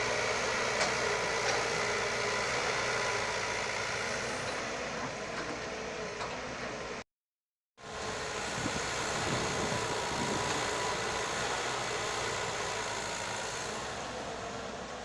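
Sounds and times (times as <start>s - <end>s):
heavy machinery diesel engine: 0.0s - 7.0s, 7.8s - 15.0s.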